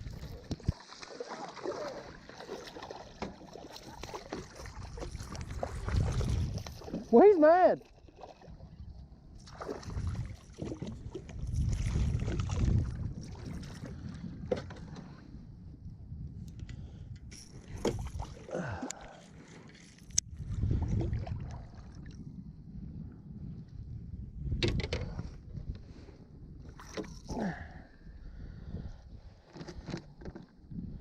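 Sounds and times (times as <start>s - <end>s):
water sloshing around kayak: 0.0s - 15.8s, 16.8s - 22.4s, 24.9s - 31.0s.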